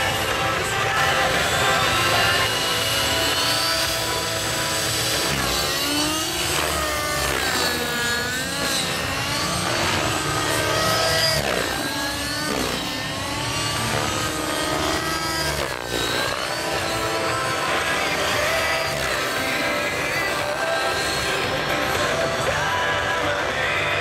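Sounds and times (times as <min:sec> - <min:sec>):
rc helicopter engine and rotors: 0:00.0 - 0:24.0.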